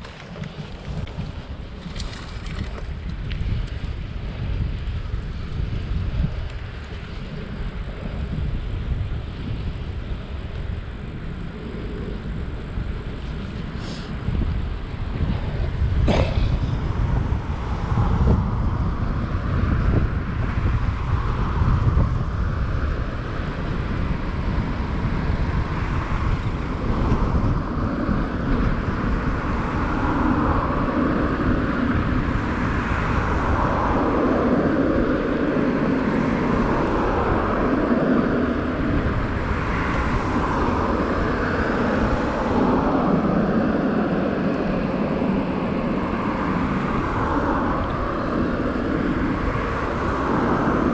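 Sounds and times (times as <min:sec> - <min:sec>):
bicycle road noise: 0:00.0 - 0:50.9
wind rushing over microphone: 0:00.0 - 0:50.9.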